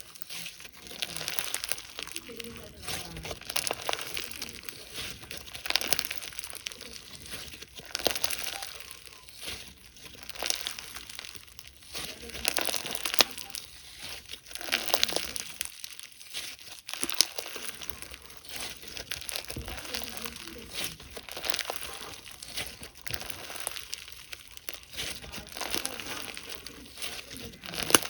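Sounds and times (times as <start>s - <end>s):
slime crackling and popping: 0.0s - 28.0s.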